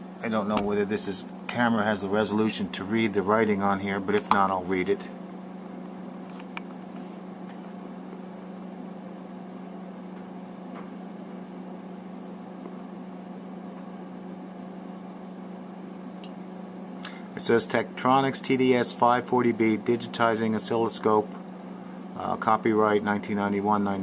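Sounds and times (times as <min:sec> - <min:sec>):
cooling fan humming: 0:00.0 - 0:24.0.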